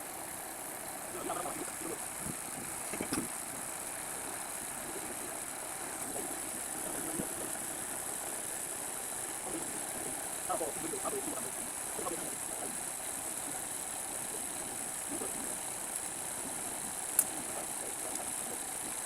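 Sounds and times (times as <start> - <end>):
machine running with hiss: 0.0 - 19.0.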